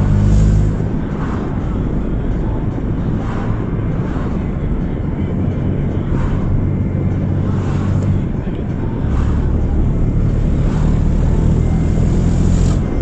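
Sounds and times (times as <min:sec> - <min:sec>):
car engine low exhaust rumble: 0:00.0 - 0:13.0.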